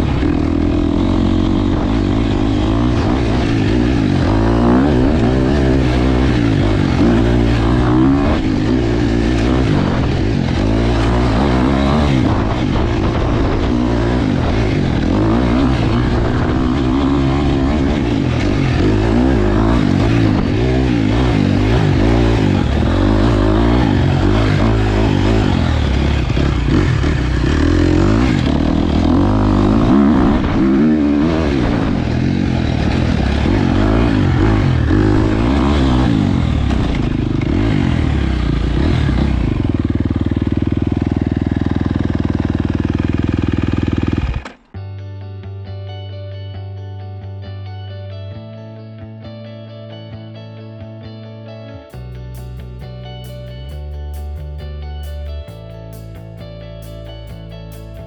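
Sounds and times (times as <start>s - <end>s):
dirt bike engine revving: 0.0s - 44.7s, 51.9s - 58.0s.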